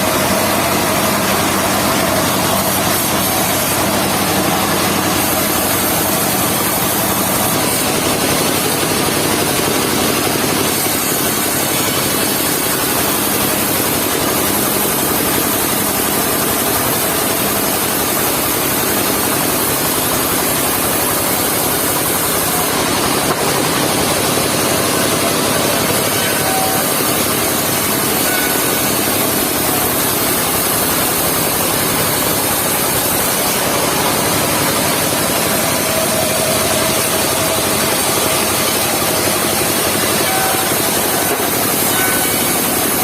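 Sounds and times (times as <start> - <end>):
sawmill engine running: 0.0 - 43.0.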